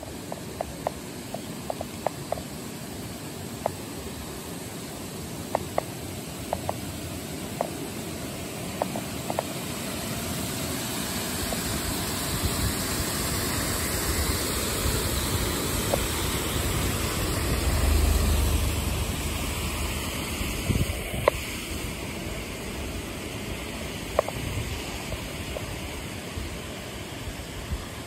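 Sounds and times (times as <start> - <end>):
fast stream rushing: 0.0 - 28.0.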